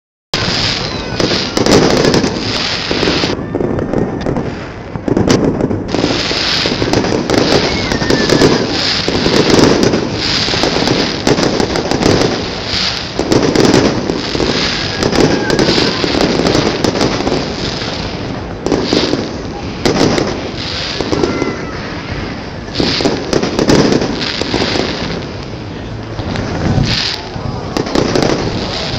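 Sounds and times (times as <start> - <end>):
fireworks bursting and crackling: 0.3 - 28.9.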